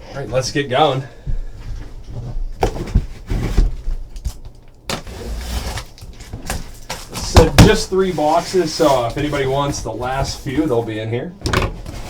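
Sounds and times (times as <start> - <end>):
packaging rustling and scraping: 1.9 - 12.0.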